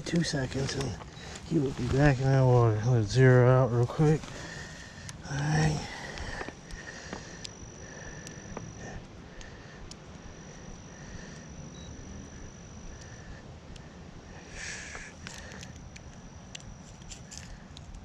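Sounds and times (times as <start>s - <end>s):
insect chirp: 0.0s - 18.0s
insects high-pitched whine: 0.0s - 18.0s.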